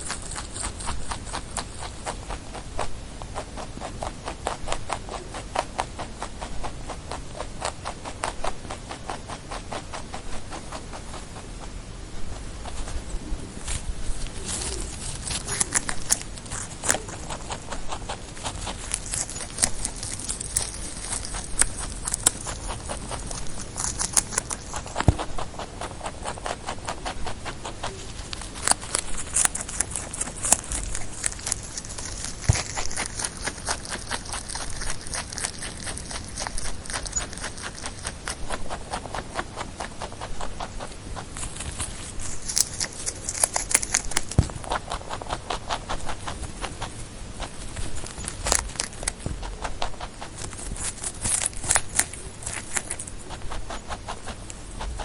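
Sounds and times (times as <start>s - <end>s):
rabbit clicking: 0.0s - 55.0s.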